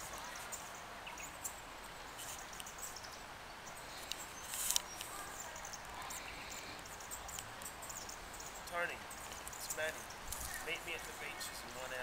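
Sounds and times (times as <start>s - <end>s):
small birds chirping: 0.0s - 12.0s
steady background hiss: 0.0s - 12.0s.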